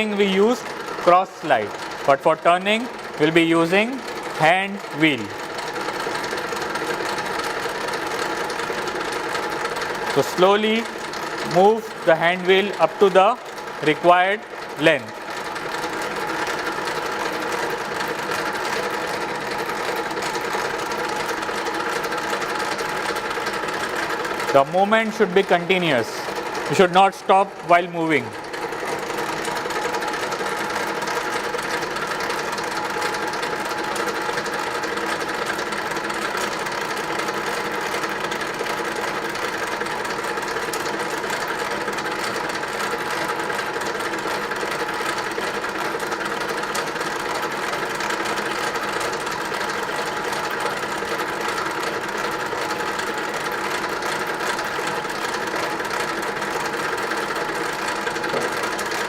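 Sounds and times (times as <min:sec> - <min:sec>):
lathe machine whine: 0:00.0 - 0:59.0.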